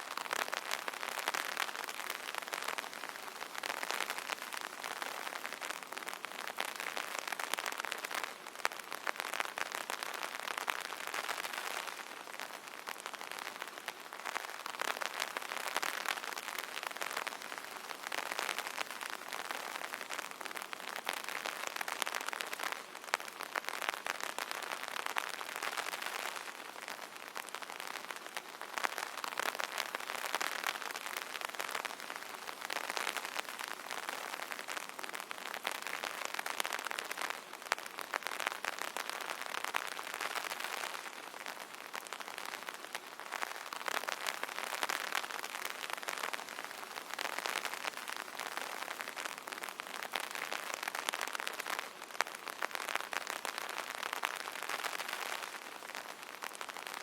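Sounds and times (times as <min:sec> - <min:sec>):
rain pattering on an umbrella: 0:00.0 - 0:57.0.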